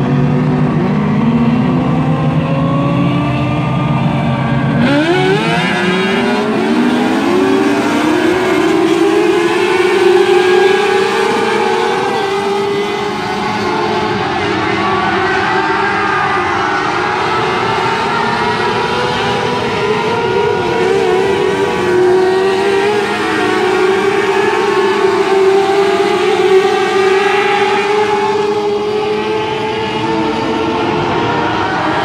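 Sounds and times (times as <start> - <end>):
car engines on dirt track: 0.0 - 32.0
engine revving up: 0.0 - 32.0.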